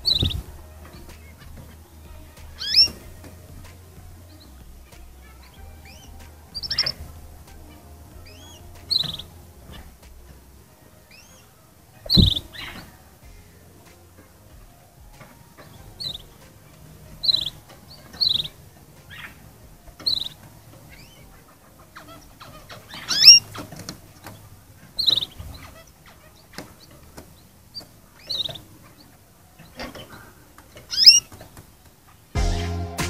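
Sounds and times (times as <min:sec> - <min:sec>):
canary gliding calls: 0:00.0 - 0:14.4, 0:15.2 - 0:32.3
canaries chirping: 0:00.0 - 0:32.4.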